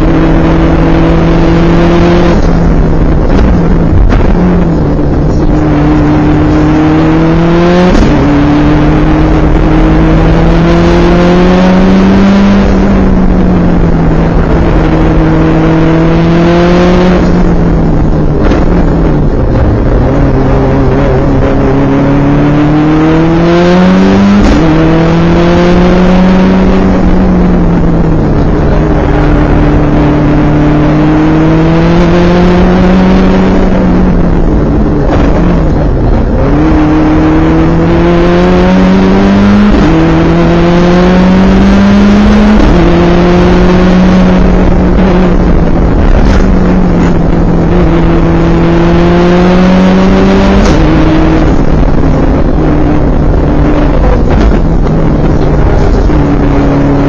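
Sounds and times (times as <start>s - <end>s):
car engine revving and shifting gears: 0.0s - 57.0s.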